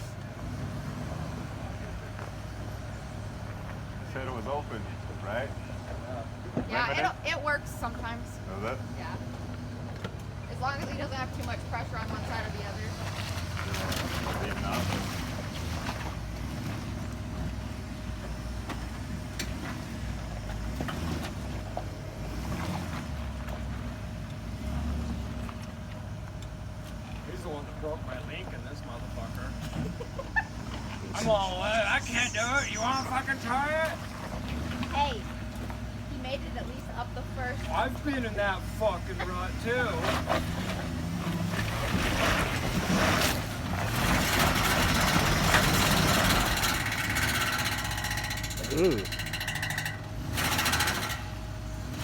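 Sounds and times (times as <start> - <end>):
engine revving under load: 0.0 - 26.3, 27.2 - 52.0.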